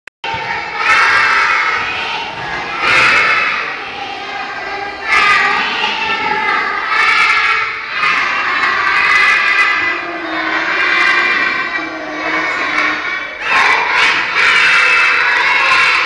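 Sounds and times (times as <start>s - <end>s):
children's voices in unison: 0.2s - 16.0s.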